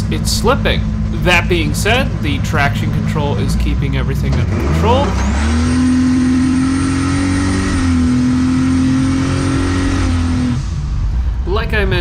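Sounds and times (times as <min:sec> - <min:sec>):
engine revving under hard throttle: 0:00.0 - 0:11.2.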